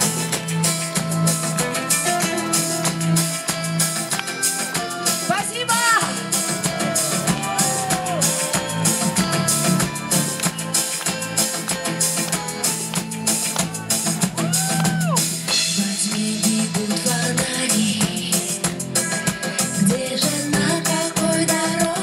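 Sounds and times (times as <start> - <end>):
drum kit beat: 0.0 - 22.0
electric guitar: 0.0 - 22.0
live pop band playing: 0.0 - 22.0.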